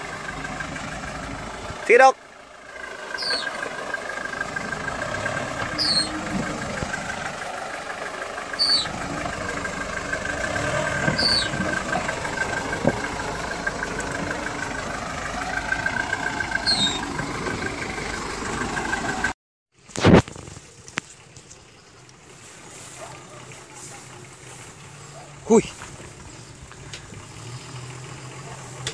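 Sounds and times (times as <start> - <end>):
truck engine running at low revs: 0.0 - 28.9.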